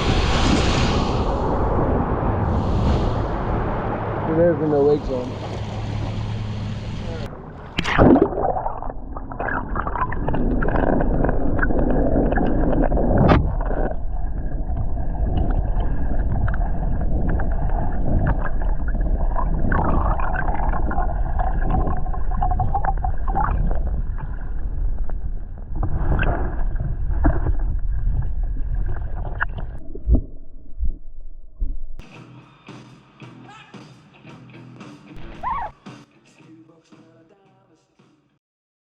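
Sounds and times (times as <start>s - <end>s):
low rumble: 0.0s - 32.0s.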